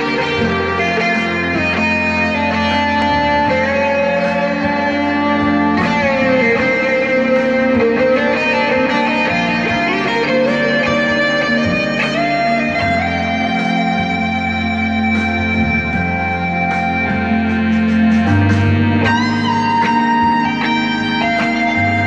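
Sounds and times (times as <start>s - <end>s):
backing track: 0.0s - 22.0s
electric guitar lead line: 0.0s - 22.0s.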